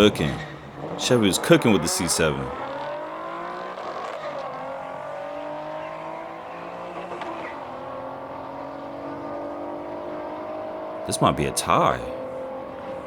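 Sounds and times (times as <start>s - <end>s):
car engines accelerating hard: 0.0s - 13.0s.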